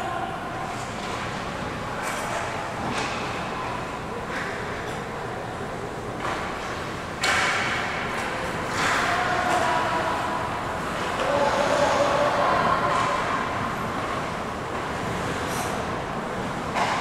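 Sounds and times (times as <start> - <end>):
rink hall hum: 0.0 - 17.0.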